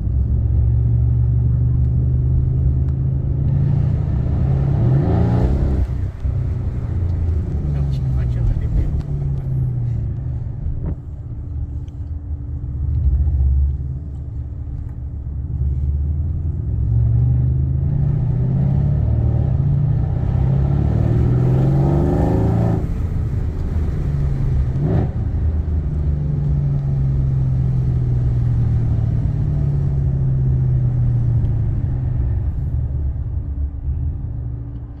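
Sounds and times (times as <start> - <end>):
car engine revving: 0.0 - 12.1, 12.7 - 34.5.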